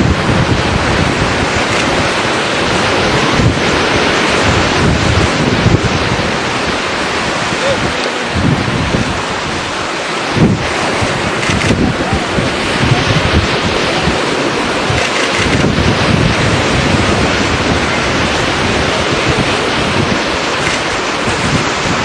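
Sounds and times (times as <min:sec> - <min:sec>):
sea surf breaking: 0:00.0 - 0:22.0
wind rumbling on microphone: 0:00.0 - 0:22.0.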